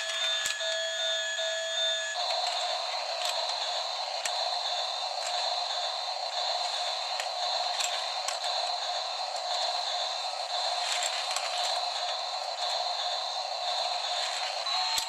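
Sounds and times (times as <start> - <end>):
toy car motors whirring: 0.0 - 15.0.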